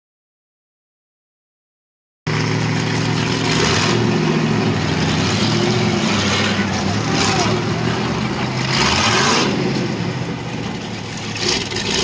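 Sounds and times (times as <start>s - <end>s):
engine running steadily: 2.3s - 12.0s.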